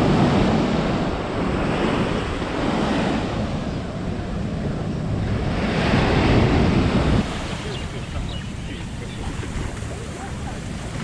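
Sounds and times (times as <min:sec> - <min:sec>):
sea waves washing onto beach: 0:00.0 - 0:11.0
wind buffeting microphone: 0:00.0 - 0:11.0.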